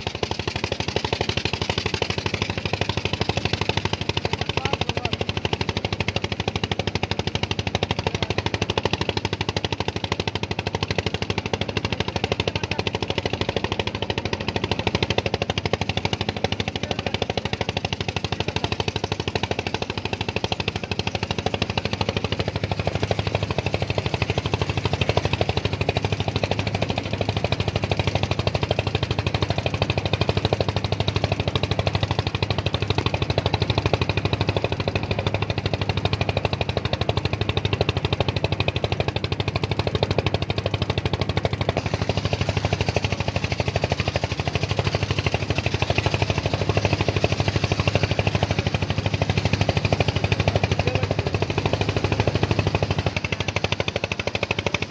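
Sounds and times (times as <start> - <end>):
engine running with knocking: 0.0 - 54.9.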